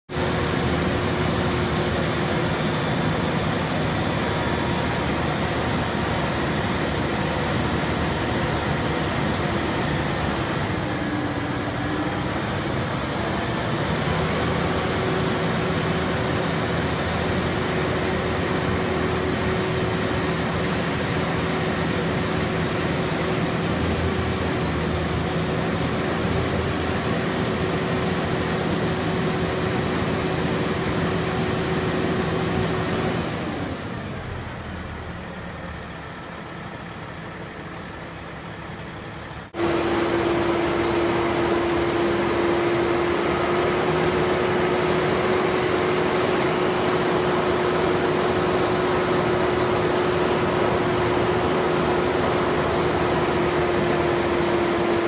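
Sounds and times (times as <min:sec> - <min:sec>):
diesel engine running: 0:00.1 - 0:55.0.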